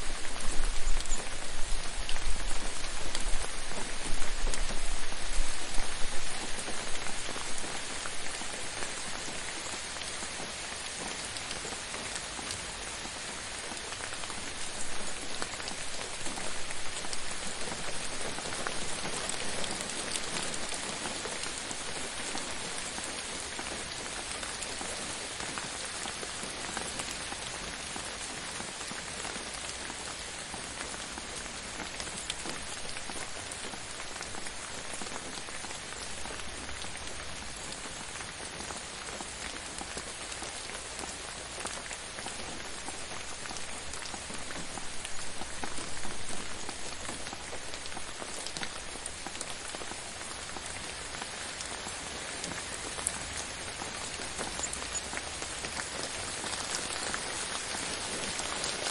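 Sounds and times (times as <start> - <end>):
gentle rain pattering: 0.0 - 58.9.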